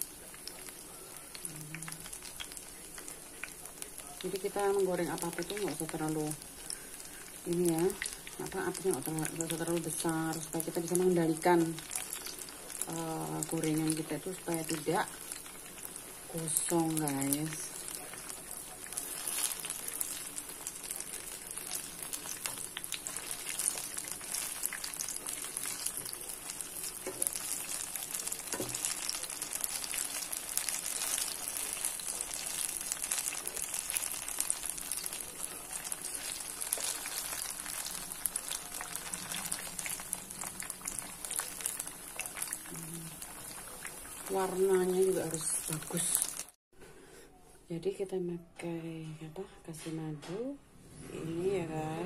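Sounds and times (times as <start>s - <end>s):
fritters sizzling in hot oil: 0.0s - 46.6s.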